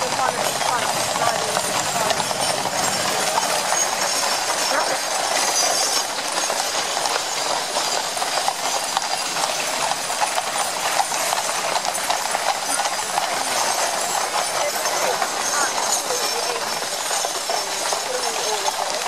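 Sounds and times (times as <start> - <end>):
carriage wheels rattling: 0.0 - 19.0
hooves clip-clopping on pavement: 0.0 - 19.0.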